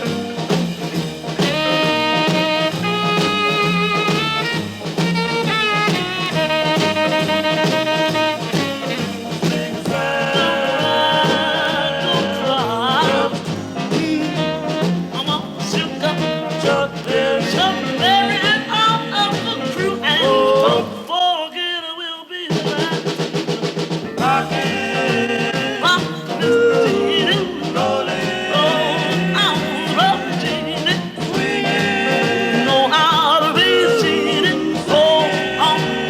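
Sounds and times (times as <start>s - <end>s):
upbeat swing band music: 0.0s - 21.4s, 22.4s - 36.0s.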